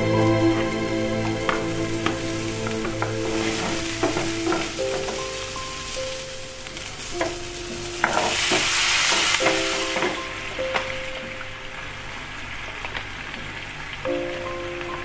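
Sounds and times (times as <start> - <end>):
food sizzling in a frying pan: 1.5 - 15.0.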